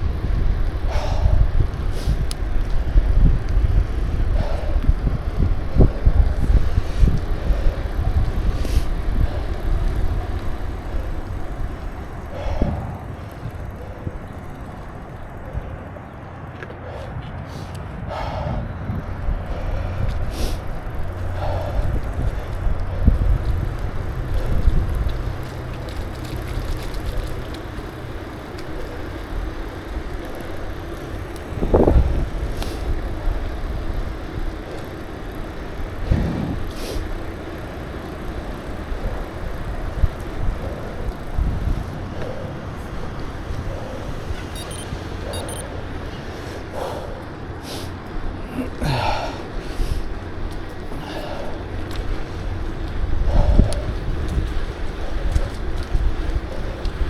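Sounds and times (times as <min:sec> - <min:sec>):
road and traffic rush: 0:00.0 - 0:57.0.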